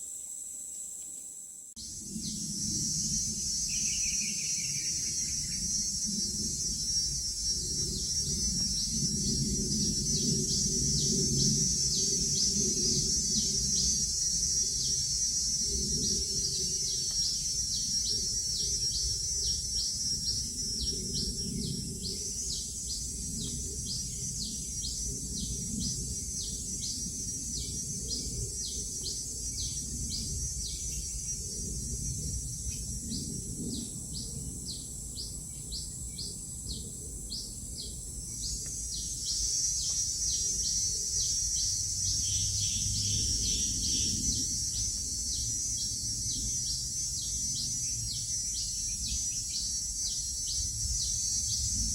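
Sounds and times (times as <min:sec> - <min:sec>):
insects droning: 0:00.0 - 0:51.9.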